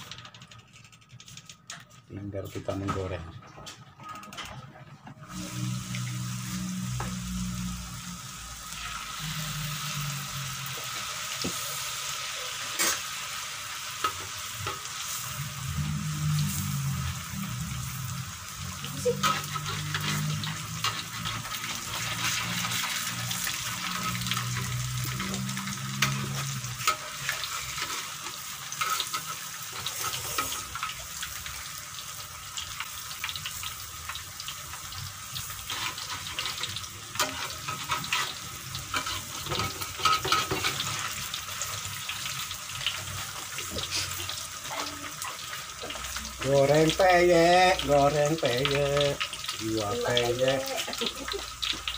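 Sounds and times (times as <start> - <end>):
batter deep-frying in oil: 0.0 - 51.9.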